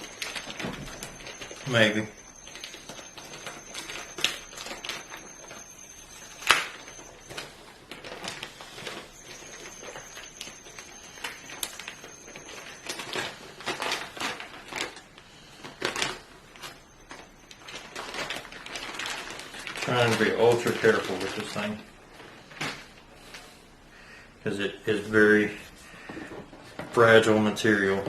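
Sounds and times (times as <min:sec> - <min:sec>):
packaging handling clicks and rustles: 0:00.0 - 0:23.4.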